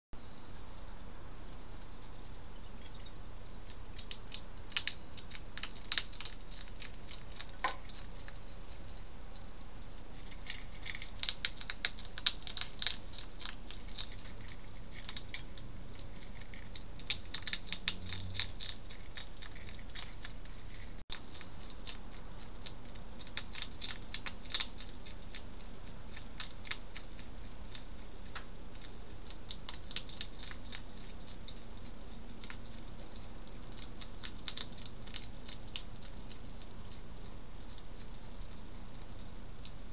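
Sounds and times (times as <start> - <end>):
steady background hiss: 0.2 - 39.9
hedgehog crunching food: 0.4 - 39.9.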